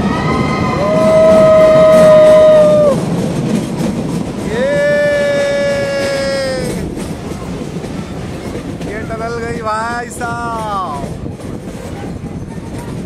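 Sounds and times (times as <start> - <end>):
train coaches clacking on rails: 0.0 - 13.0.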